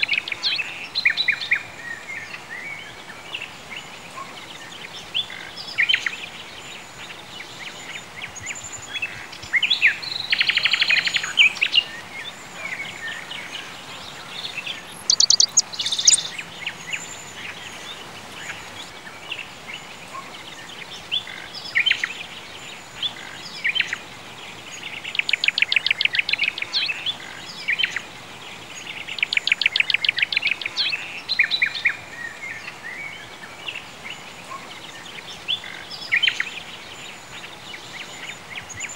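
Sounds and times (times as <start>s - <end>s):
faint steady background hiss: 0.0s - 38.9s
songbirds chirping and trilling: 0.0s - 38.9s.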